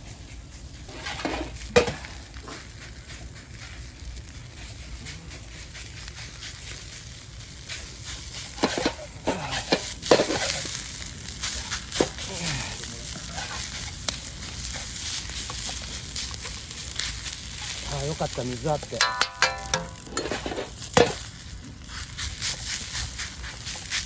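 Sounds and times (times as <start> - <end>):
rice sizzling in a frying pan: 0.0 - 24.0
scraping in a frying pan: 0.0 - 24.0.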